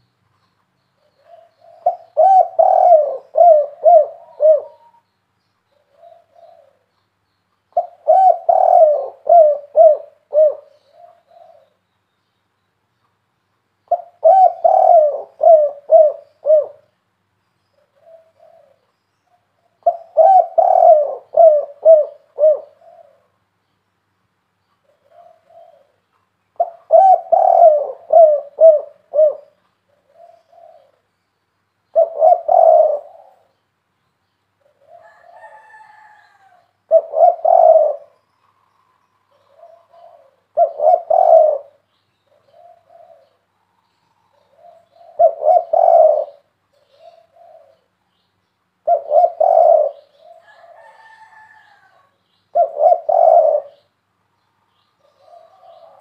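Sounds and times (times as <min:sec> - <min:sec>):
dove cooing: 0:01.0 - 0:05.1, 0:05.7 - 0:07.0, 0:07.7 - 0:11.8, 0:13.9 - 0:16.9, 0:17.8 - 0:23.4, 0:24.8 - 0:31.0, 0:31.9 - 0:33.6, 0:34.6 - 0:48.0, 0:48.8 - 0:53.9, 0:55.0 - 0:56.0.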